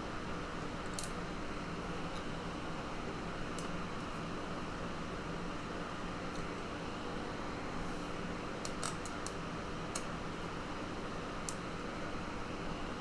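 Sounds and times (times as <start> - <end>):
fan-like room hum: 0.0 - 13.0.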